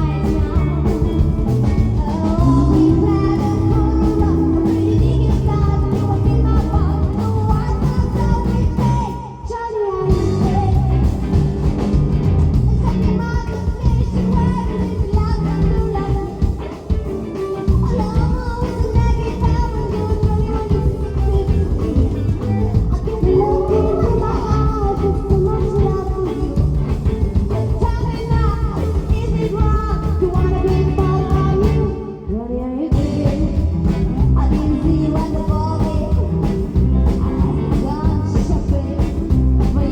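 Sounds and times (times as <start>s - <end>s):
person singing: 0.0s - 11.8s, 12.6s - 39.9s
live rock and roll band: 0.0s - 39.9s.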